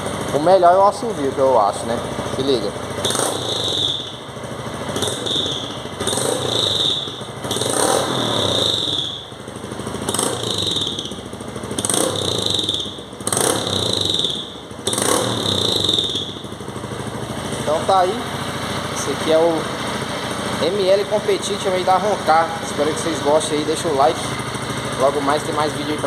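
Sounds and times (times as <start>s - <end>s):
exhaust whistle: 0.0s - 26.0s
motorcycle engine revving: 0.0s - 26.0s.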